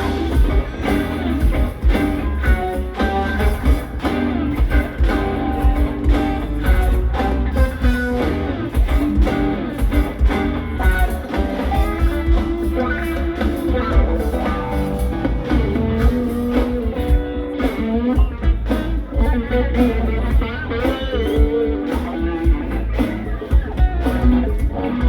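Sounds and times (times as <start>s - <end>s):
bass guitar: 0.0s - 25.0s
electric guitar lead: 0.0s - 25.0s
steady drum beat: 0.0s - 25.0s.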